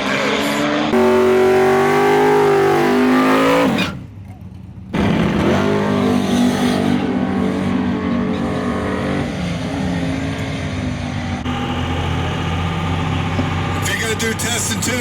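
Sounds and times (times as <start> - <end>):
truck engine at high revs: 0.0 - 4.2, 4.9 - 15.0.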